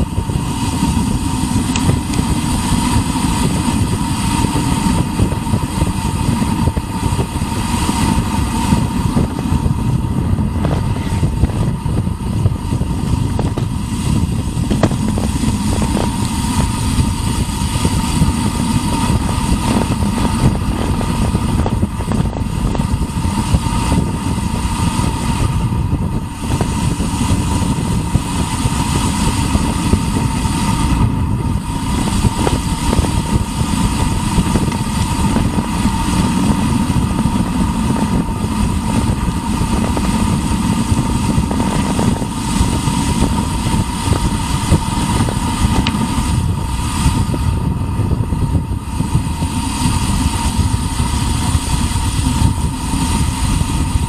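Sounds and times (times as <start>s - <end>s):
thin steady whine: 0.0s - 54.0s
wind buffeting microphone: 0.0s - 54.0s.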